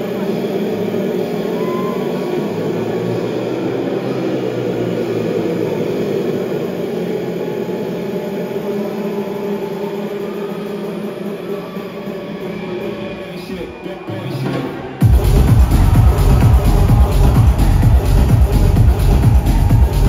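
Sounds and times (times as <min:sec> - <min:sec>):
crowd cheering: 0:00.0 - 0:20.0.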